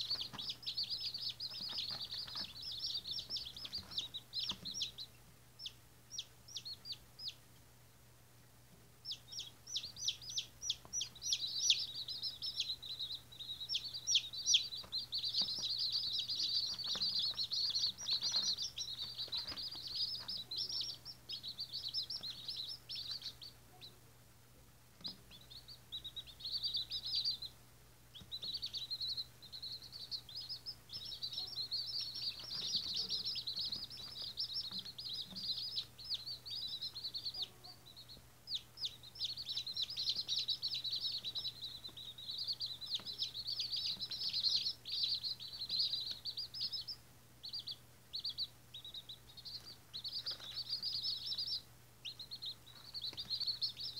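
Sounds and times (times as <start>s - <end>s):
chicks peeping: 0.0s - 53.9s.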